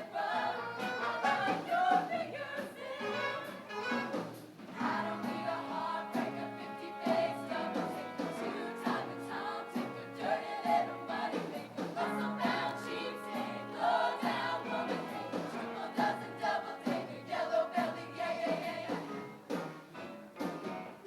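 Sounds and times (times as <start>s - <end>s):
choir singing in parts: 0.0s - 19.4s
instrumental accompaniment: 0.2s - 2.1s, 3.0s - 21.0s.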